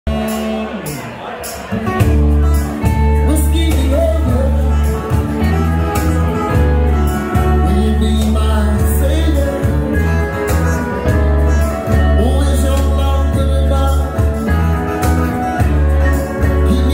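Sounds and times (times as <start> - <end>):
acoustic and electric guitars: 0.1 - 16.9
bass line: 0.1 - 16.9.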